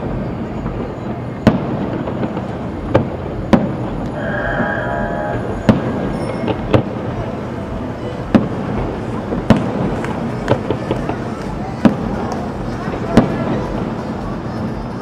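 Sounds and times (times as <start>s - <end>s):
fireworks bursting: 0.0s - 15.0s
steady background noise: 0.0s - 15.0s.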